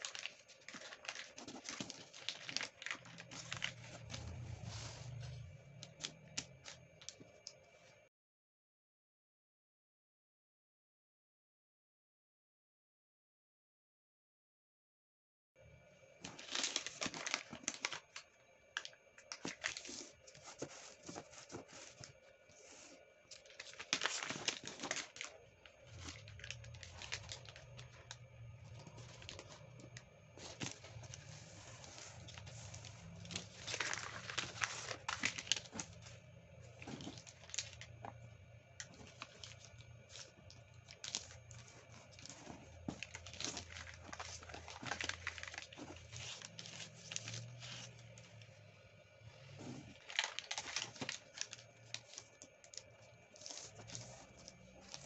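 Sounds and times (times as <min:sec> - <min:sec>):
paper crinkling as folded: 0:00.0 - 0:07.6, 0:16.2 - 0:48.5, 0:49.6 - 0:55.0.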